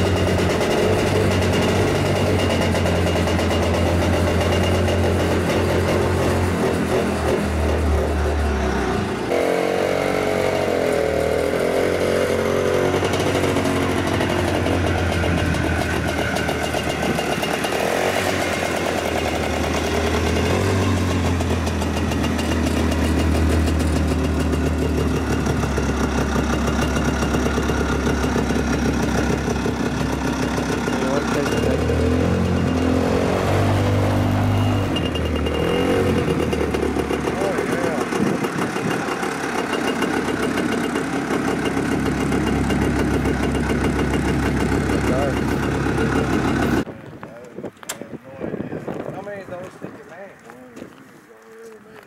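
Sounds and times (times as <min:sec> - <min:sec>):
atv engine droning: 0:00.0 - 0:47.5.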